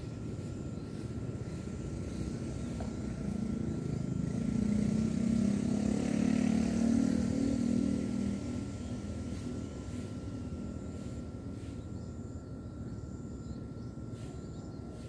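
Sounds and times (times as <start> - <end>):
passing vehicle engine drone: 0.0 - 15.0.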